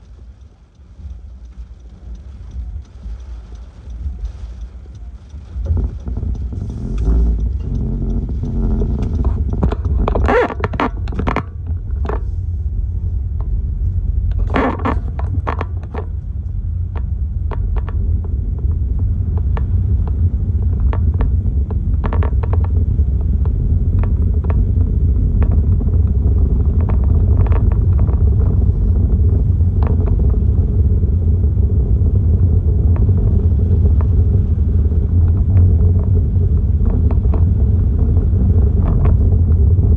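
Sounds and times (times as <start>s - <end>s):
sharp rattles and clatters: 0.0s - 39.9s
wind buffeting microphone: 0.0s - 39.9s.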